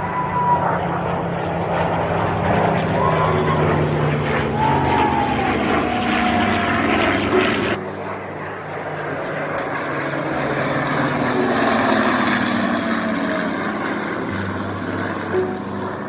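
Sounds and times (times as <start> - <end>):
propeller aircraft engine: 0.0 - 16.0
rising and falling tones: 0.0 - 16.0.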